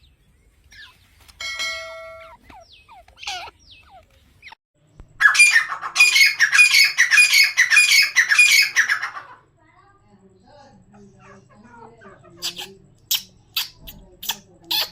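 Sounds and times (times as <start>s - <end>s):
francolin calling: 0.7s - 9.4s, 10.4s - 14.9s.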